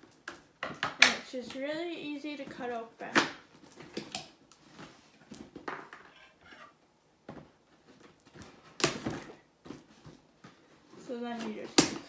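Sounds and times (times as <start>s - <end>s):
cardboard and plastic packaging rustling: 2.2s - 12.0s.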